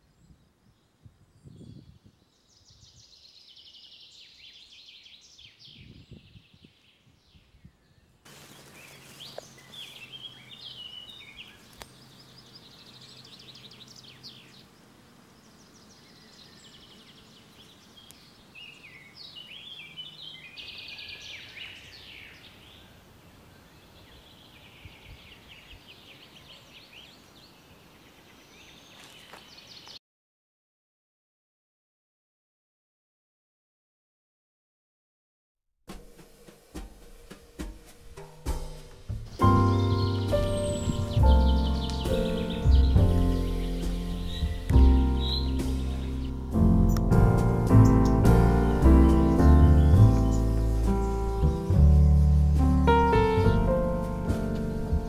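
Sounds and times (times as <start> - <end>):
small birds chirping and singing: 0.0 - 30.0, 36.7 - 55.0.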